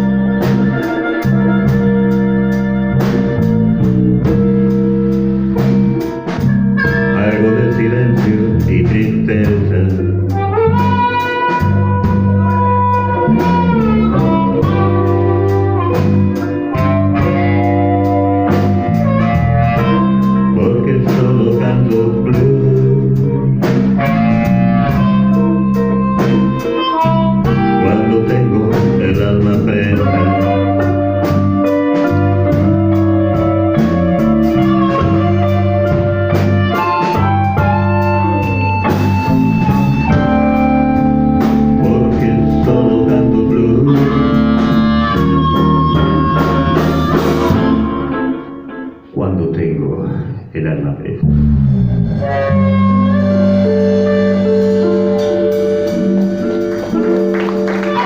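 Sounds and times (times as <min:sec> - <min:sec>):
electric guitar solo: 0:00.0 - 0:07.6, 0:10.2 - 0:20.6, 0:23.6 - 0:29.1, 0:29.8 - 0:49.1, 0:51.3 - 0:58.0
steady drum beat: 0:00.0 - 0:48.3, 0:52.9 - 0:58.0
bass guitar: 0:00.0 - 0:58.0.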